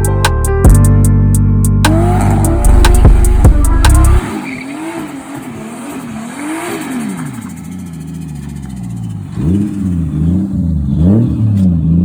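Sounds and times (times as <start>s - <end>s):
car engine revving: 1.9s - 12.0s.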